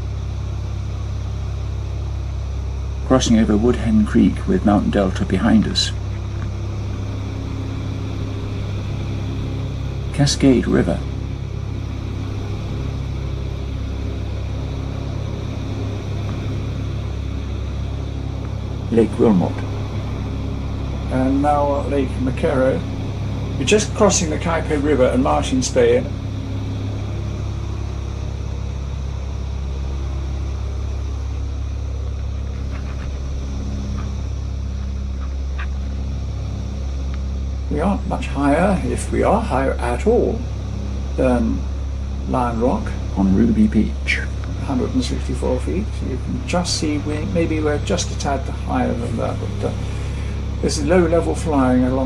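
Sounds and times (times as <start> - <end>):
piston aircraft engines droning: 0.0 - 52.0.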